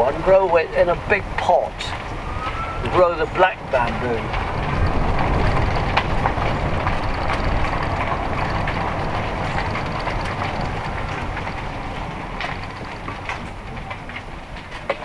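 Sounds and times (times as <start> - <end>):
vehicle rumble: 0.0 - 15.0
small clicks and rattles: 1.4 - 15.0.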